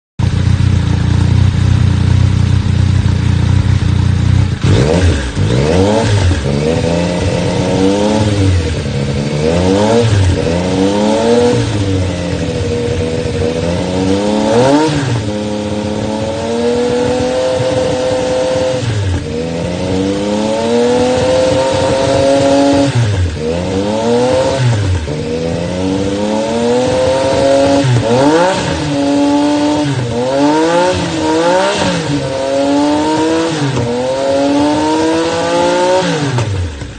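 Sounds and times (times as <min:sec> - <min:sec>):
motorcycle engine idling and revving: 0:00.2 - 0:36.9.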